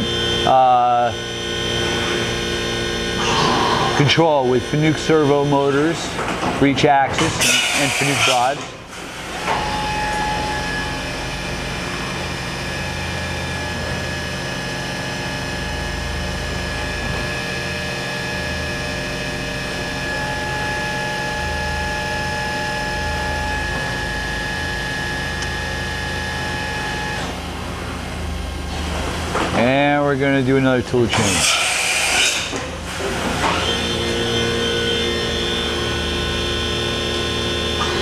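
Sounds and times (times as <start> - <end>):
high steady whine: 0.0 - 31.3, 32.5 - 38.0
machine motors humming: 0.0 - 38.0.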